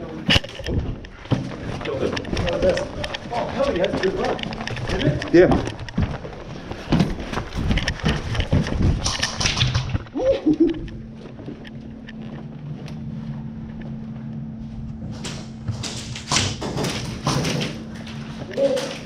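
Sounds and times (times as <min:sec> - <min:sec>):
steady low hum: 0:00.0 - 0:19.0
running footsteps: 0:00.4 - 0:19.0.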